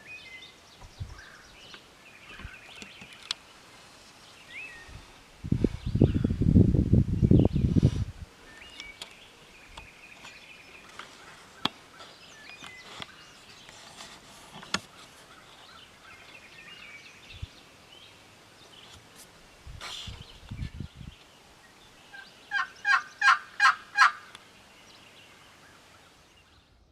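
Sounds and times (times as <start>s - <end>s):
small birds chirping: 0.0s - 6.5s, 7.1s - 26.9s.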